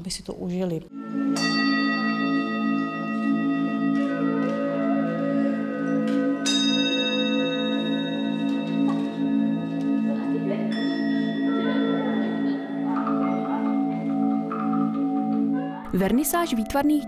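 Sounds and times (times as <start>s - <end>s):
singing bowl humming: 0.9s - 17.0s
singing bowl strikes ringing: 1.2s - 5.2s, 5.8s - 15.9s.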